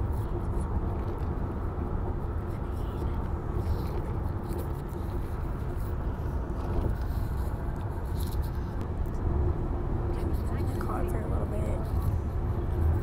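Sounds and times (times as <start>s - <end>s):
car road rumble and engine hum: 0.0s - 13.0s.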